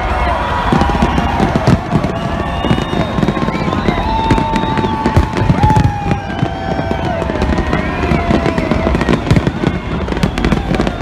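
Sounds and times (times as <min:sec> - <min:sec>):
fireworks bangs and crackles: 0:00.0 - 0:11.0
slowly falling whistling tones: 0:00.2 - 0:11.0.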